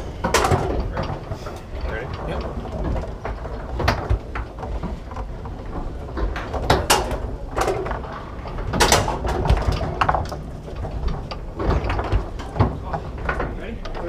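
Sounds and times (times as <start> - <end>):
foosball knocking and rods clacking: 0.0 - 14.0.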